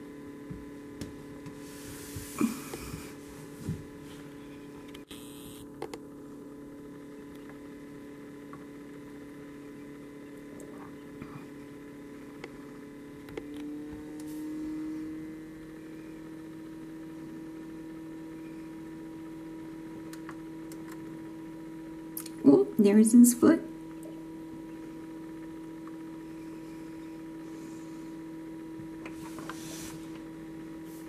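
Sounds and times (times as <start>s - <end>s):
incubator electrical hum: 0.0s - 31.0s.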